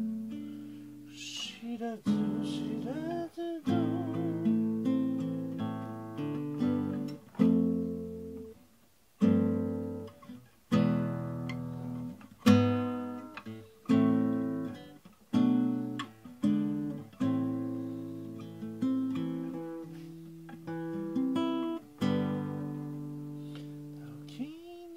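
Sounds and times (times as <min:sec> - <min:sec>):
classical guitar chords: 0:00.0 - 0:24.9.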